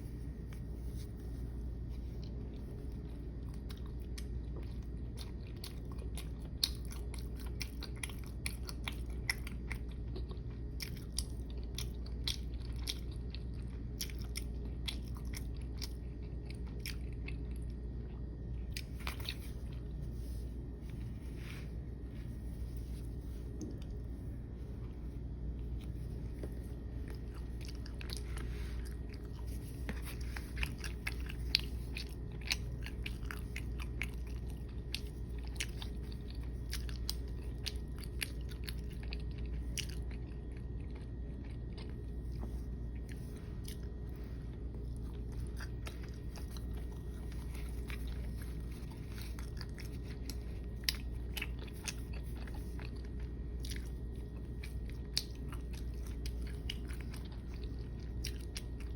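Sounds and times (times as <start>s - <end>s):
low hum: 0.0s - 58.9s
person chewing bread: 0.0s - 58.9s.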